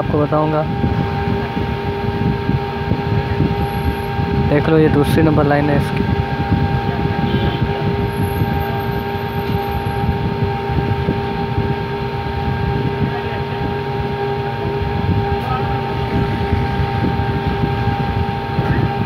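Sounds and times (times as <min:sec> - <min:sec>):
mechanical drone with whining tones: 0:00.0 - 0:19.0.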